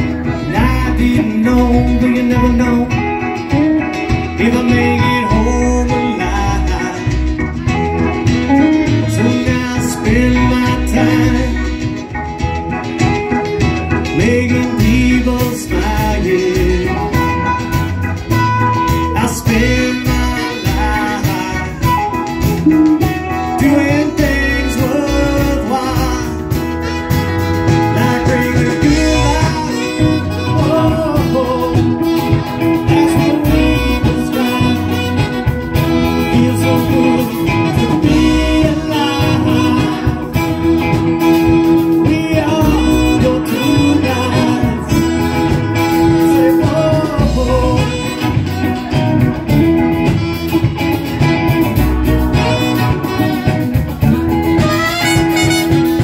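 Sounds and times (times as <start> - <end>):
live band playing: 0.0 - 56.0
person singing: 0.0 - 56.0.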